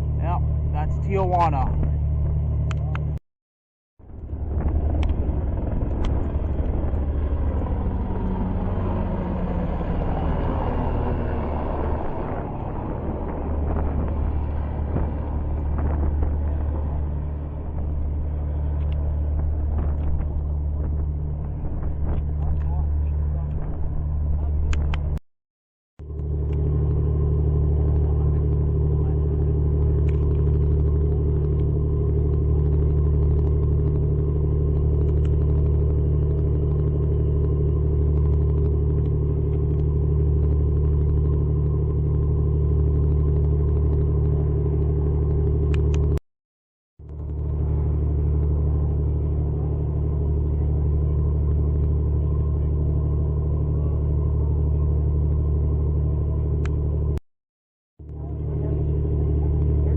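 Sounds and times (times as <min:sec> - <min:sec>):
engine rumble: 0:00.0 - 0:03.2, 0:04.0 - 0:25.2, 0:26.0 - 0:46.2, 0:47.0 - 0:57.2, 0:58.0 - 0:59.9.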